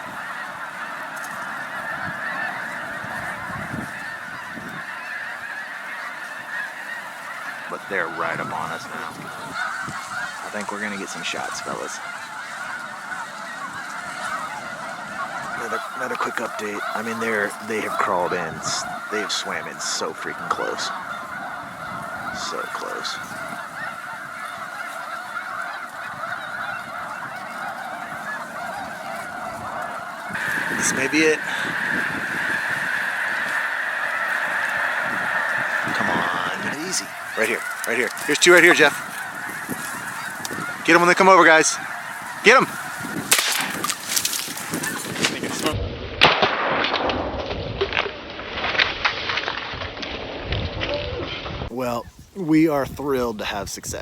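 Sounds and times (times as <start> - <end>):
flock of geese honking: 0.0 - 47.1, 47.9 - 54.0.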